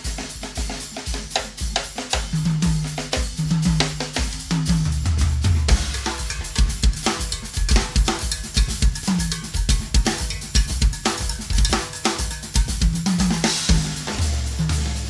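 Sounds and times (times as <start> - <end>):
drum kits playing a groove: 0.0 - 15.0.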